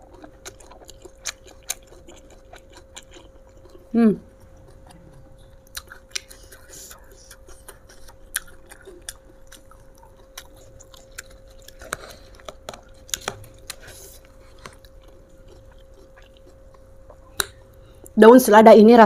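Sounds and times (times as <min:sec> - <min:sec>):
chewing crisp lettuce: 0:00.0 - 0:17.6
faint steady hum: 0:00.0 - 0:19.0.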